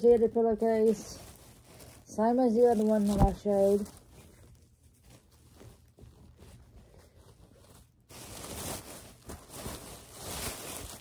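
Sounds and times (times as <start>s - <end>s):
clothes rustling: 0.0s - 11.0s.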